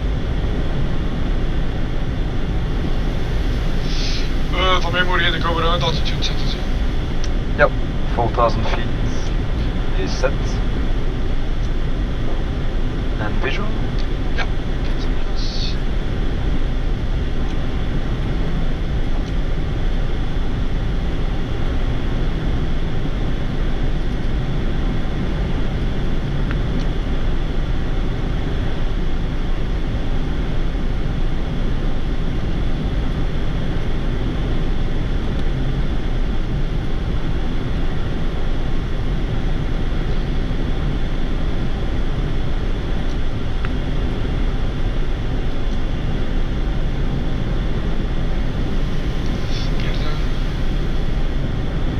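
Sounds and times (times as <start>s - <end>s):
rushing cockpit noise in flight: 0.0s - 51.9s.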